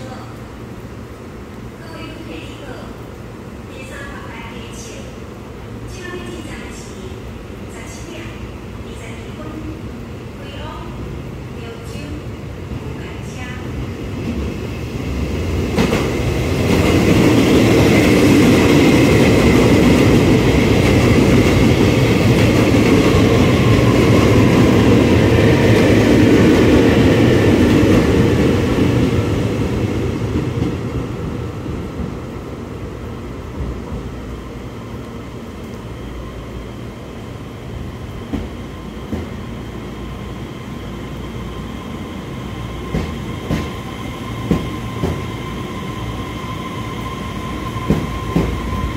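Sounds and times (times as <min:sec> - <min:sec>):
train rumbling past: 0:00.0 - 0:48.9.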